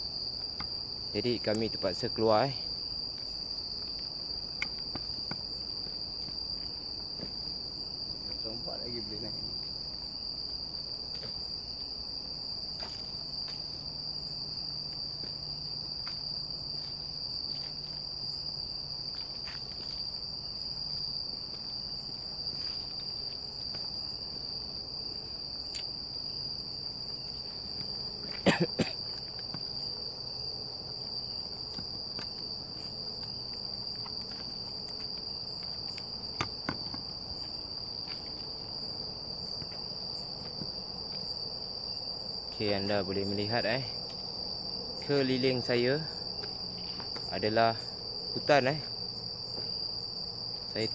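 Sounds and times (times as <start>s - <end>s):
night insects chirring: 0.0s - 50.9s.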